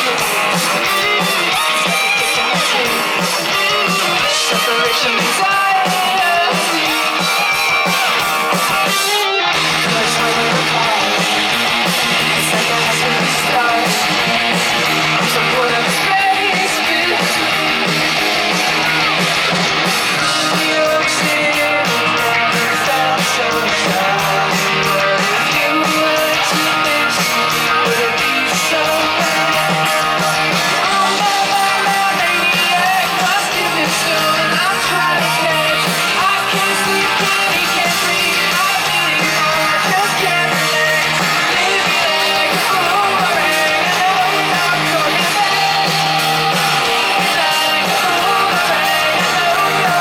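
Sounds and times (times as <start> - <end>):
drums: 0.0 - 50.0
electric guitar: 0.0 - 50.0
person singing: 0.0 - 50.0.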